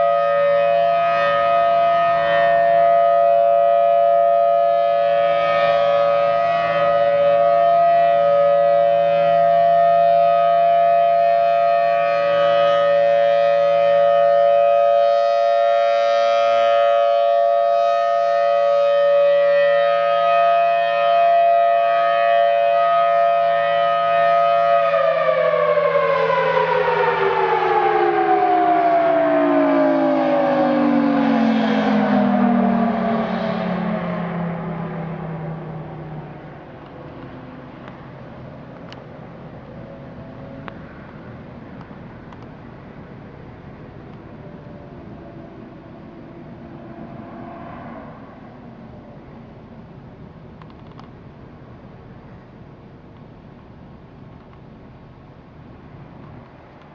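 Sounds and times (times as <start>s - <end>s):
tornado siren two-tone wail: 0.0s - 56.9s.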